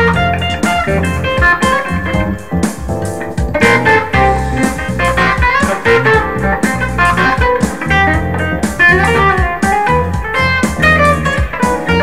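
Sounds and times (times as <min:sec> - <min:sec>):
electric guitar blues lead: 0:00.0 - 0:12.0.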